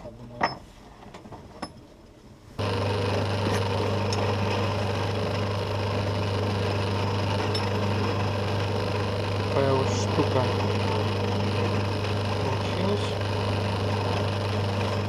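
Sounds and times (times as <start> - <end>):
electric power tool grinding: 2.6 - 15.0.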